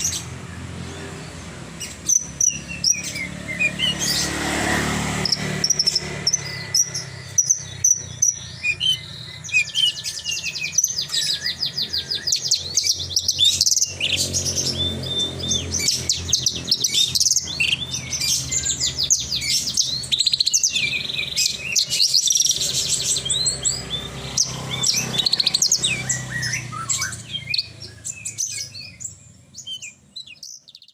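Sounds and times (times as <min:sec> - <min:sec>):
bird song trills and whistles: 0:00.0 - 0:30.9.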